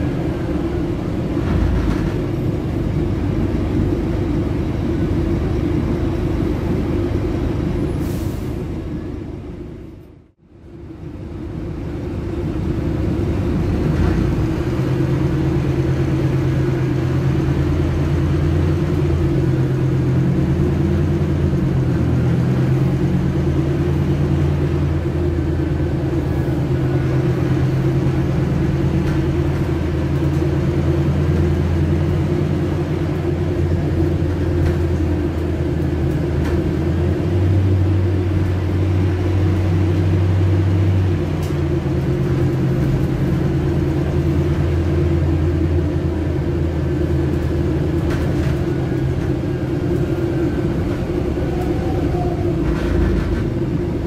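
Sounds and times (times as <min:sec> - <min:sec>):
bus engine droning: 0:00.0 - 0:54.0.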